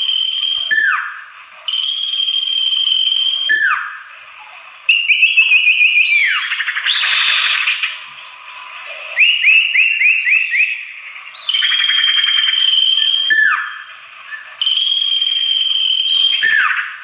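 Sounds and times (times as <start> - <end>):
bird whistling call: 0.0 - 8.1, 9.1 - 17.0.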